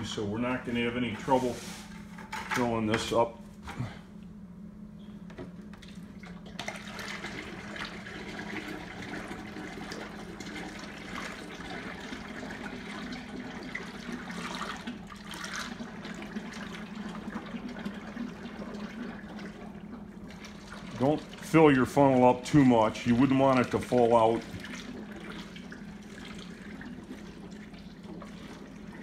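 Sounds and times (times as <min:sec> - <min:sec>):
oil pouring into a funnel: 0:05.7 - 0:29.0.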